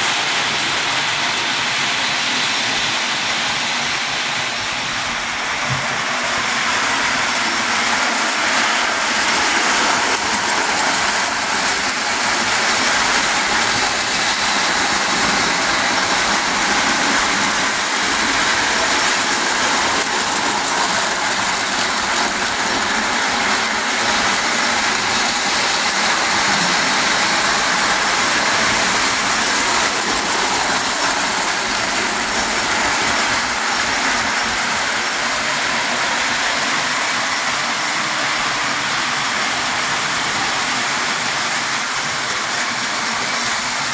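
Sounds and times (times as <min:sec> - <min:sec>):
toy train running on track: 0:00.0 - 0:43.9.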